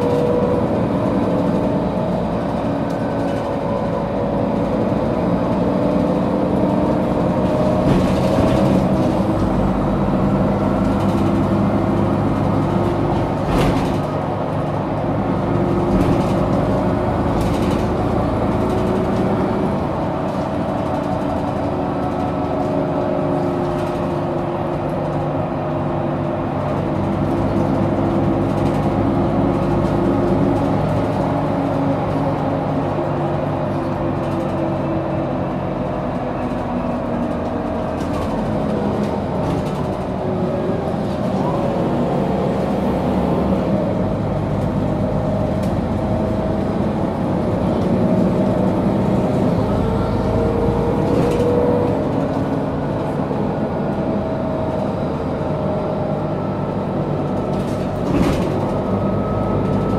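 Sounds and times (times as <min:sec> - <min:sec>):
bus engine running: 0:00.0 - 0:59.9
road noise: 0:00.0 - 0:59.9.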